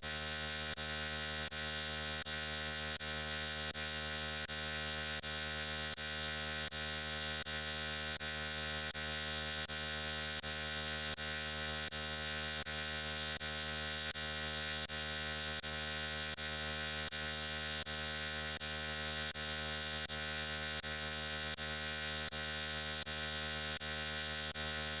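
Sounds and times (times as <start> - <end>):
harsh electric buzzing hum: 0.0 - 25.0.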